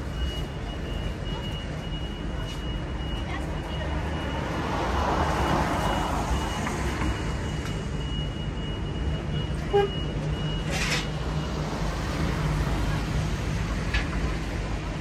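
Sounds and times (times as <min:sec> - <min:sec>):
vehicle engines running: 0:00.0 - 0:15.0.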